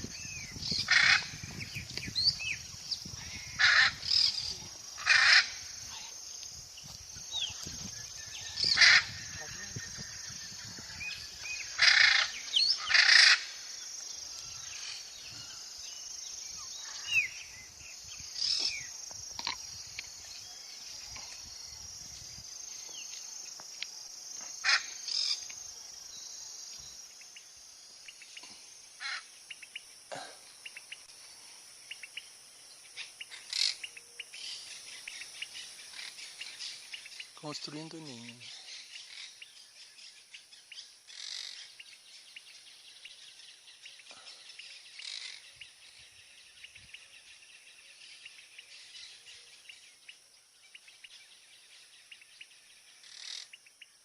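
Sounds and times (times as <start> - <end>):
insects droning: 0.0 - 54.0
wild birds calling: 0.0 - 54.0.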